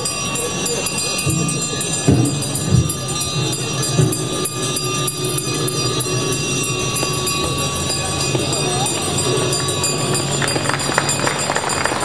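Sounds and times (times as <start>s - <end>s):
crowd voices: 0.0s - 12.0s
many bells jangling: 0.0s - 12.0s.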